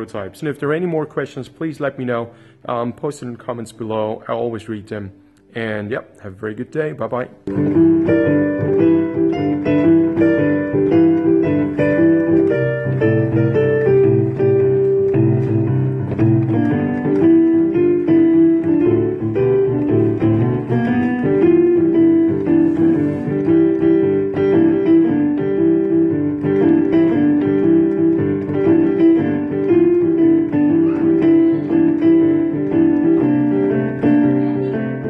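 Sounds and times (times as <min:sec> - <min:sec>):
piano playing: 0:00.0 - 0:35.0.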